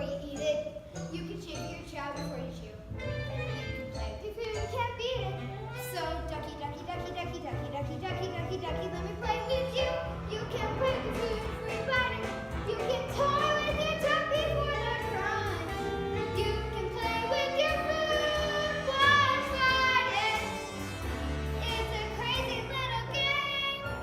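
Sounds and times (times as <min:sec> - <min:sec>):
children singing show tune: 0:00.0 - 0:24.0
instrumental accompaniment: 0:00.0 - 0:24.0.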